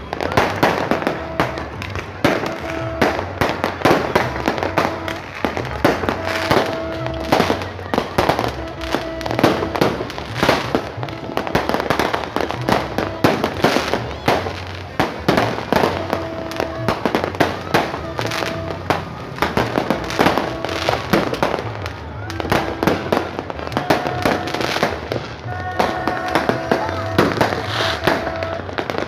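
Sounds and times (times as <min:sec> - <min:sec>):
fireworks banging and crackling: 0:00.0 - 0:29.0
music playing: 0:00.0 - 0:29.0.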